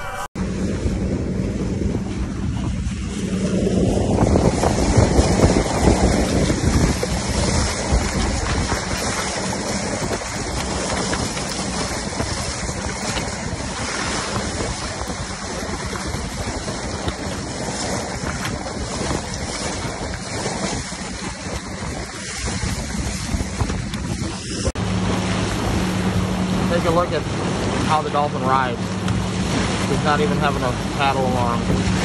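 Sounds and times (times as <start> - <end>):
water rushing along boat hull: 0.0 - 32.0
wind buffeting microphone: 0.0 - 32.0.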